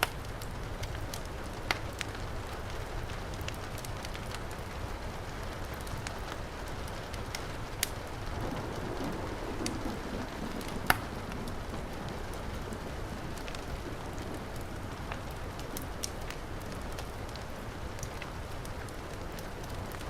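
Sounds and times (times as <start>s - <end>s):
heavy rain: 0.0s - 20.0s
wood fire crackling: 0.0s - 20.0s.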